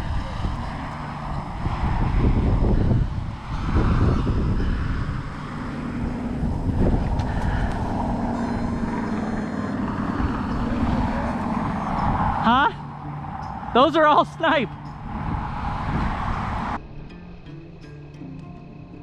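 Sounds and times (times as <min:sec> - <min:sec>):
low rumble: 0:00.0 - 0:16.8
steady engine drone: 0:00.0 - 0:19.0.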